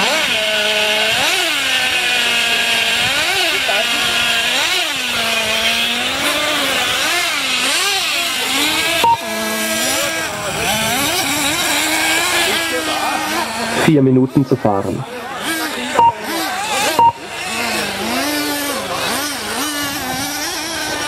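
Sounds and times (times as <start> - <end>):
rc car engines revving: 0.0 - 21.0.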